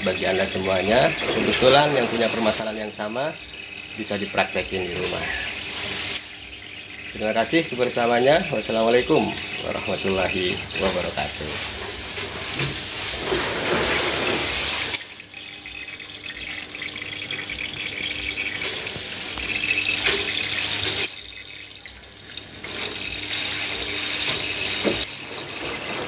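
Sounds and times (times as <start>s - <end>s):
water rushing into washing machine: 0.0s - 26.0s.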